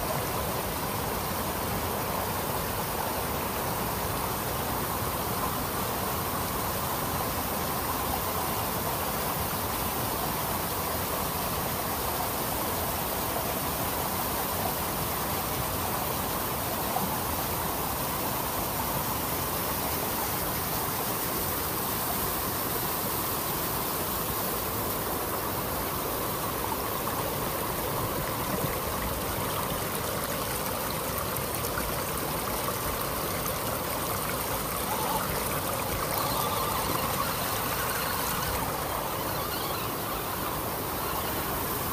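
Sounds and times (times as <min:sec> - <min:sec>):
creek rushing over rocks: 0:00.0 - 0:41.9.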